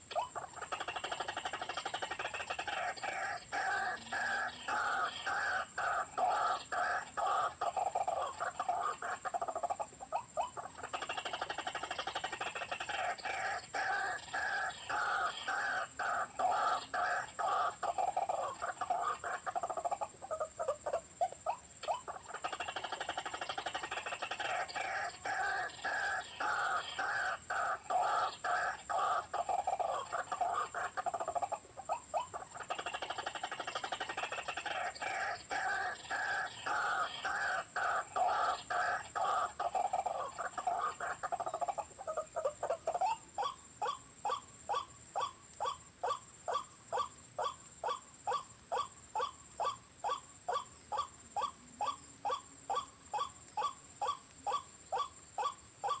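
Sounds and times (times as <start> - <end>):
waterhen chattering croaks: 0.0 - 56.0.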